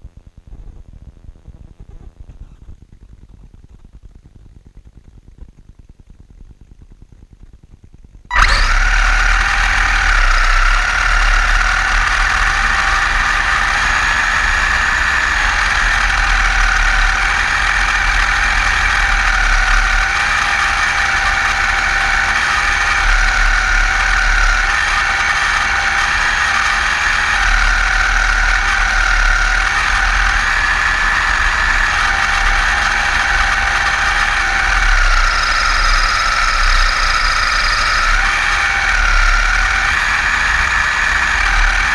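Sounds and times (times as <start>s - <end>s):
electric motor whining: 8.3s - 41.9s.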